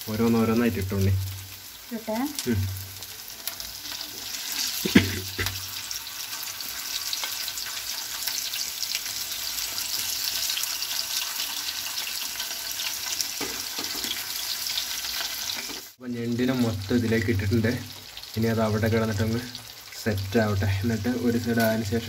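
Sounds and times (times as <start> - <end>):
crabs sizzling in hot oil: 0.0 - 22.0.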